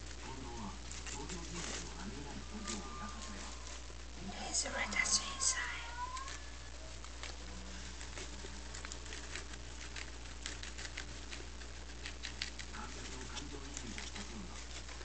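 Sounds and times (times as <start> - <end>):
guinea pig munching lettuce: 0.0 - 15.0
steady low hum: 0.0 - 15.0.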